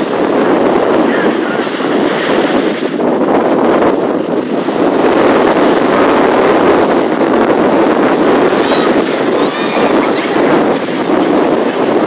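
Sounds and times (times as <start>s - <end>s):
waves and surf rushing: 0.0s - 12.0s
wind on microphone: 0.0s - 12.0s.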